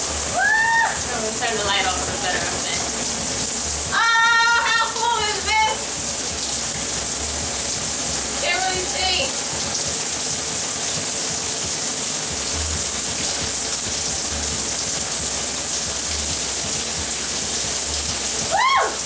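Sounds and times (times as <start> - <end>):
shower spraying into tub: 0.0 - 19.0.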